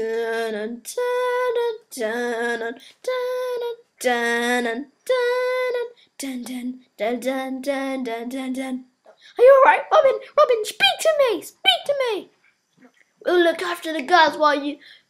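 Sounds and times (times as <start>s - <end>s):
child singing wordless tune: 0.0s - 12.3s, 13.2s - 15.0s.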